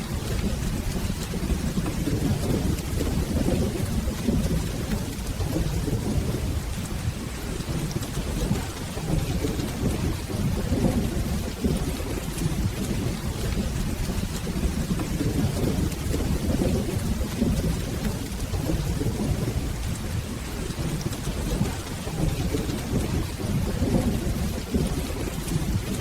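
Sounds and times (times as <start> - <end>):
distant thunder rumbling: 0.0 - 26.0
steady rain: 0.0 - 26.0.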